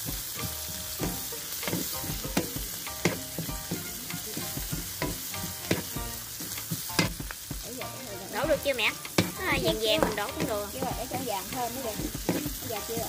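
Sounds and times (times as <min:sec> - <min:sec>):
aromatics sizzling in hot oil: 0:00.0 - 0:13.0.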